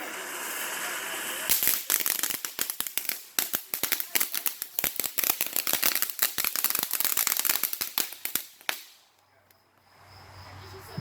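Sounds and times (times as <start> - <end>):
firework crackling: 0.0 - 9.2.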